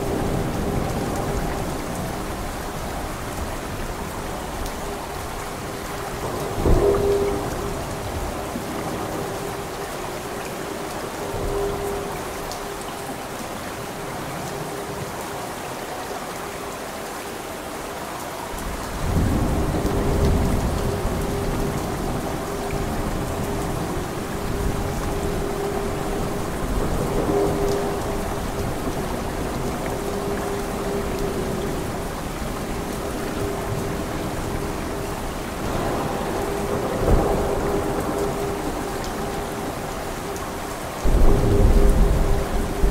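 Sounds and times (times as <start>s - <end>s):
thunder rumbling: 0.0s - 12.4s, 18.6s - 42.9s
heavy rain: 0.0s - 42.9s.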